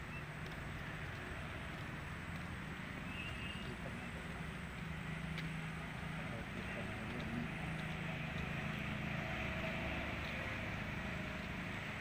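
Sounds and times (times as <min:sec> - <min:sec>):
low engine hum: 0:00.0 - 0:12.0
road noise: 0:00.0 - 0:12.0.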